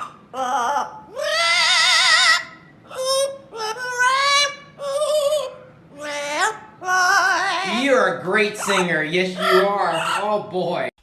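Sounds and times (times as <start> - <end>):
parrot singing: 0.0 - 10.9.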